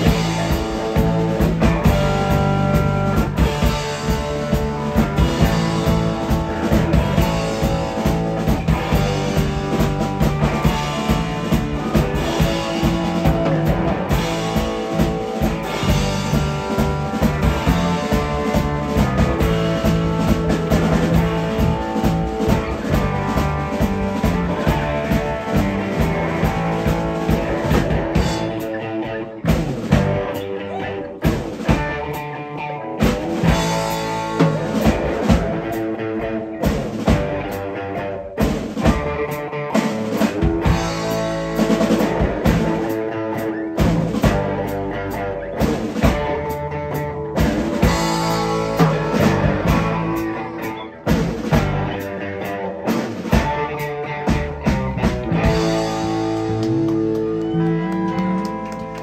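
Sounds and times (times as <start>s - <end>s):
drum kit: 0.0s - 59.0s
electric bass: 0.0s - 59.0s
electric guitars: 0.0s - 59.0s.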